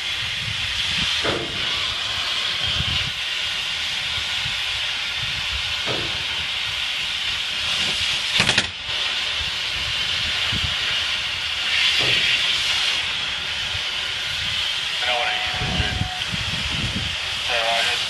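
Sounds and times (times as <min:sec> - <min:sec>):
cutting torch hissing: 0:00.0 - 0:18.0.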